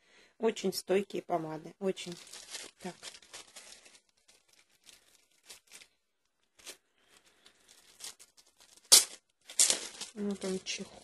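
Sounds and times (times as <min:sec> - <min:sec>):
packaging rustling and tearing: 0:02.0 - 0:11.0.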